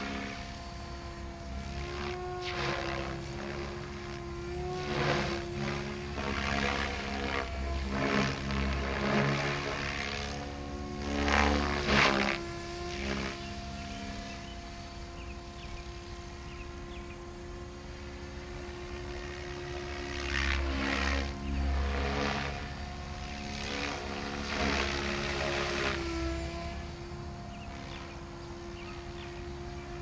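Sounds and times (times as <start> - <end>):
model helicopter rotor whine: 0.0 - 30.0.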